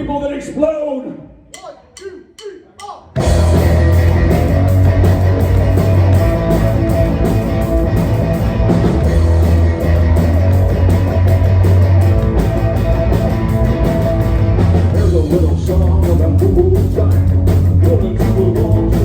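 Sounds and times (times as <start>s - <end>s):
drums and cymbals: 2.8s - 19.0s
bass guitar: 3.2s - 19.0s
electric guitar: 3.2s - 19.0s.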